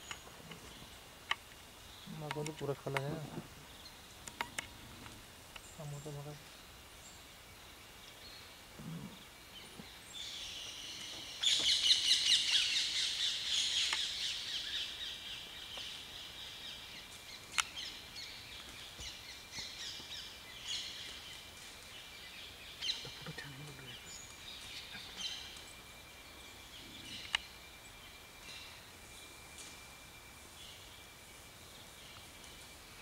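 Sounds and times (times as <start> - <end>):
birds chattering and chirping: 0.0 - 33.0.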